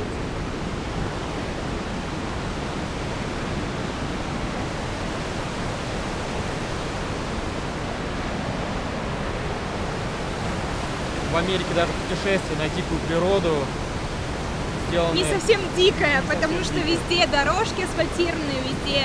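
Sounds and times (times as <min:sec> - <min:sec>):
fast river rushing: 0:00.0 - 0:19.0.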